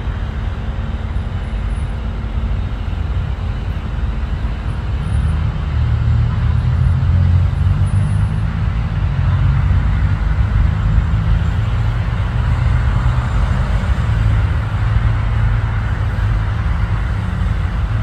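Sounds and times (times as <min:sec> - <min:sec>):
jet engines rumbling overhead: 0:00.0 - 0:18.0.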